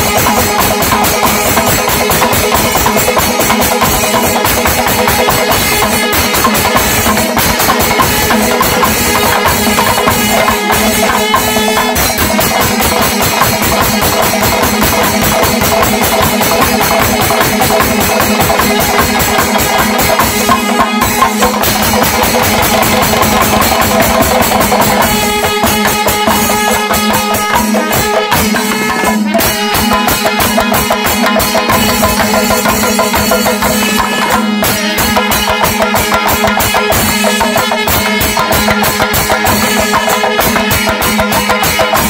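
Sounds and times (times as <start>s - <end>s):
drum ensemble beating fast: 0.0s - 42.0s
sustained ringing layer: 0.0s - 42.0s.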